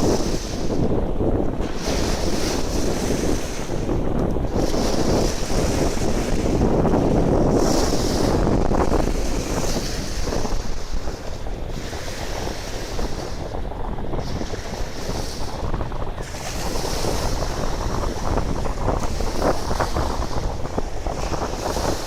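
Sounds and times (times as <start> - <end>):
sea waves washing ashore: 0.0 - 22.0
wind rumbling on microphone: 0.0 - 22.0.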